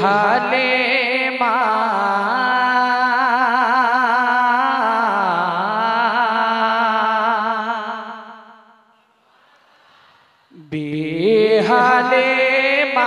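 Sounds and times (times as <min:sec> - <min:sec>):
man singing into microphone: 0:00.0 - 0:08.6, 0:10.5 - 0:13.0.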